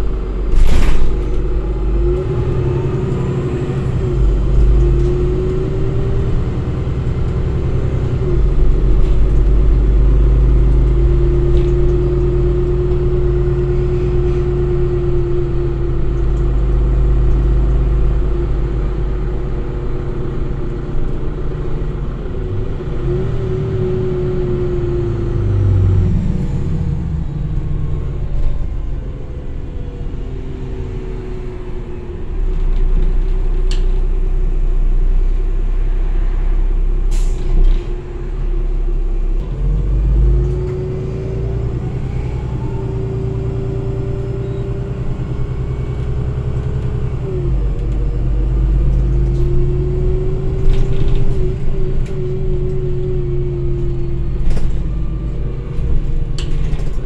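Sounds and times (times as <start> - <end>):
bus diesel engine rumble: 0.0 - 57.0.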